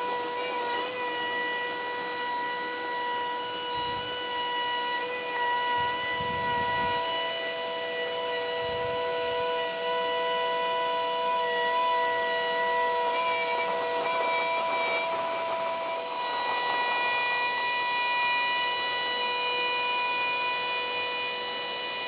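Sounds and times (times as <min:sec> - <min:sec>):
router whining cutting wood: 0:00.0 - 0:22.0.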